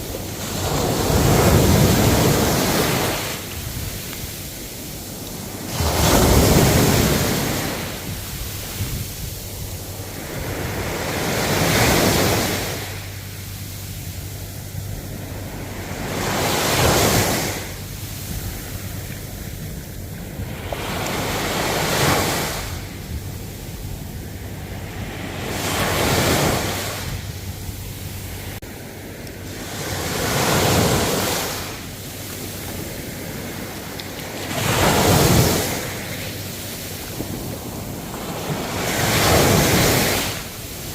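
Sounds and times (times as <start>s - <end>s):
ocean waves washing in: 0.0s - 40.9s.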